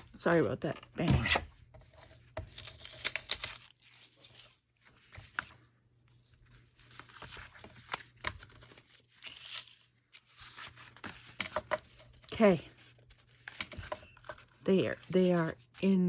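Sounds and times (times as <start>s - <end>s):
paper rustling: 1.1s - 16.0s.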